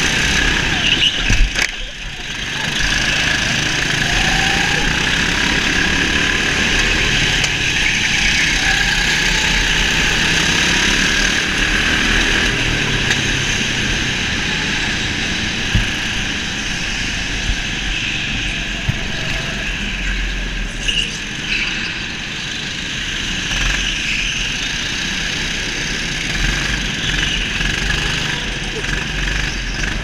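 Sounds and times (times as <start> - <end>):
go-kart motor drone: 0.0 - 30.0.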